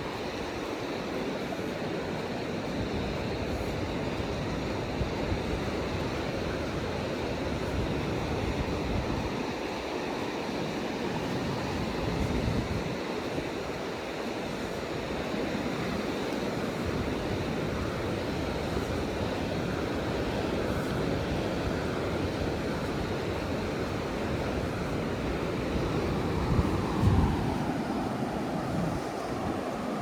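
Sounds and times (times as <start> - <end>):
waves breaking: 0.0 - 30.0.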